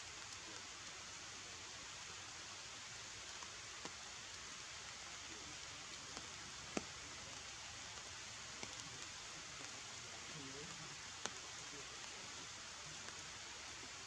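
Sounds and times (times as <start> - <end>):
forest ambience hiss: 0.0 - 14.0.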